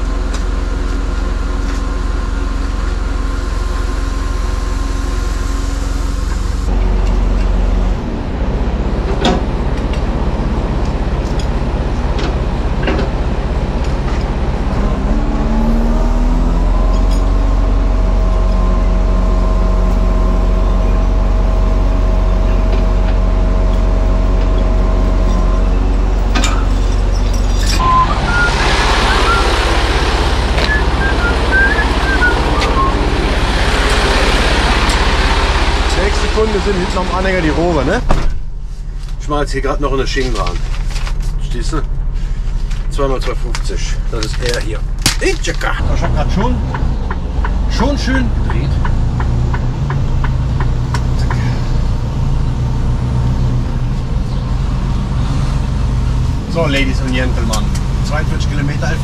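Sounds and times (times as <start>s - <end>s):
truck engine and hydraulics drone: 0.0s - 59.0s.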